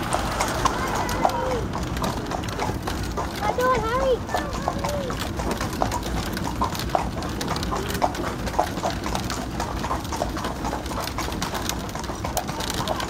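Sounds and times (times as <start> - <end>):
horse hooves clip-clopping on asphalt: 0.0 - 13.0.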